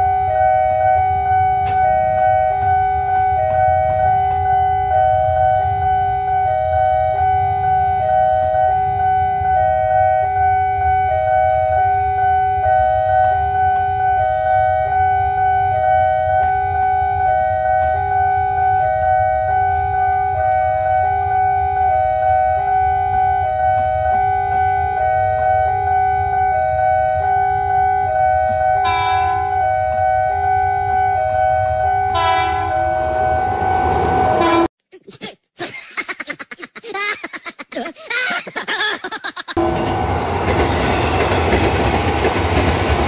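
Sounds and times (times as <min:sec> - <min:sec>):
level crossing warning alarm: 0:00.0 - 0:34.7.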